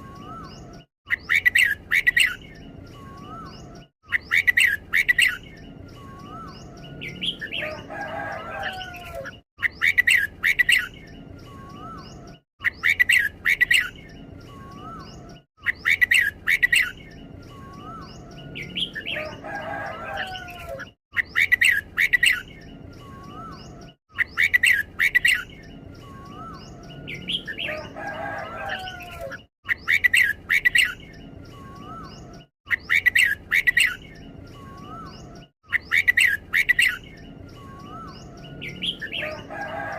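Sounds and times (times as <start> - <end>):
bird singing bright notes: 0.0 - 39.9.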